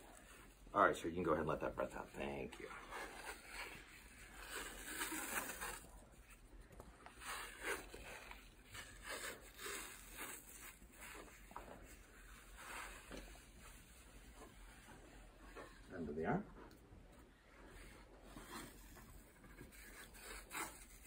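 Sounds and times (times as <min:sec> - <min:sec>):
tape rasping and rustling: 0:01.6 - 0:21.0.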